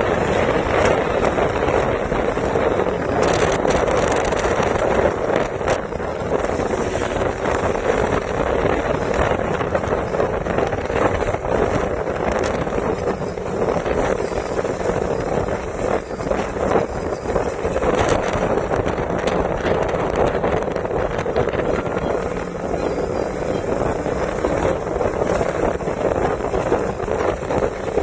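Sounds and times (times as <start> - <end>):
motorcycle running: 0.0 - 28.0
wind rushing over microphone: 0.0 - 28.0.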